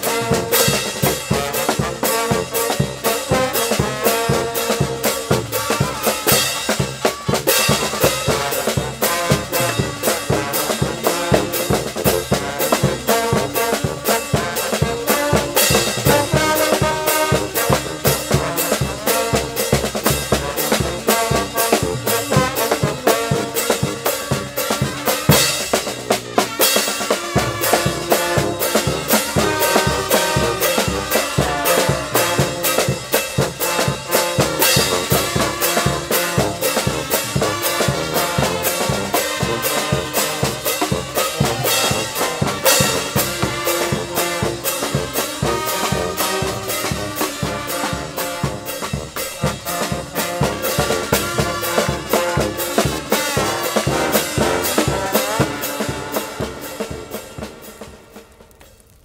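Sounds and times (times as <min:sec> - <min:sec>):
upbeat brass music with drums: 0:00.0 - 0:59.0.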